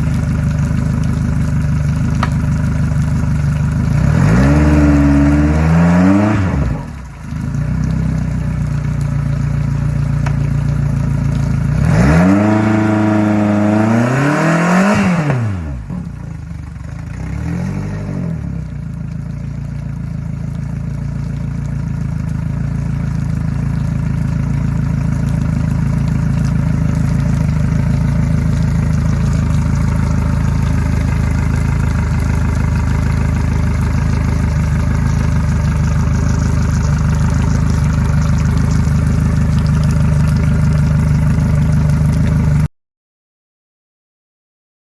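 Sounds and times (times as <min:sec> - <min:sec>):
outboard engine revving and idling: 0:00.0 - 0:42.7.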